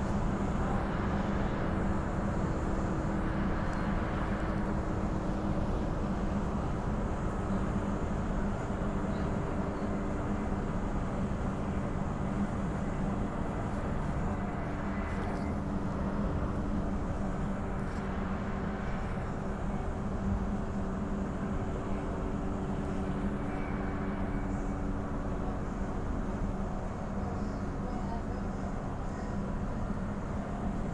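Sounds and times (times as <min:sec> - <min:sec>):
wheels rumbling on rail: 0:00.0 - 0:30.9.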